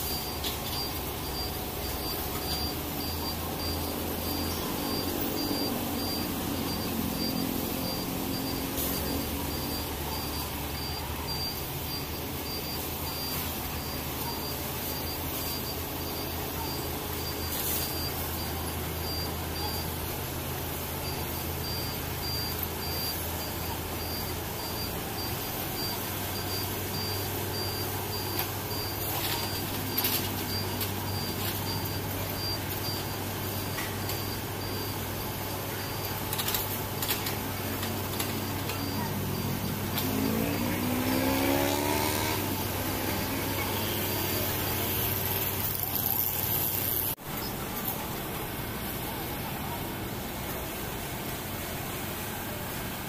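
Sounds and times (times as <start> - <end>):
high-pitched alarm beeping: 0.0 - 47.6.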